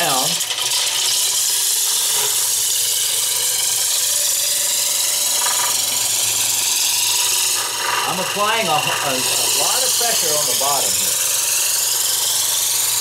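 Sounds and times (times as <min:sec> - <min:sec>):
dowel cutter shaving wood: 0:00.0 - 0:13.0
lathe humming: 0:00.0 - 0:13.0.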